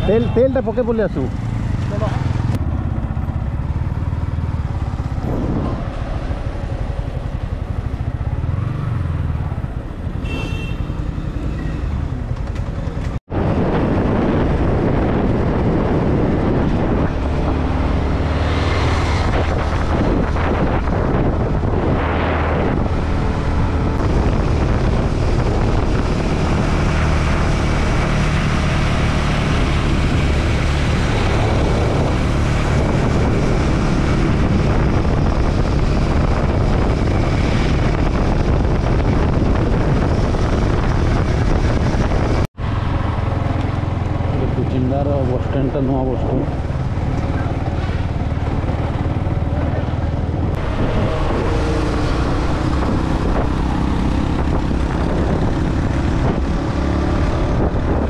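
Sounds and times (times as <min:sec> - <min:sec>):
motorcycle engine: 0:00.0 - 0:58.0
wind rushing over microphone: 0:01.0 - 0:58.0.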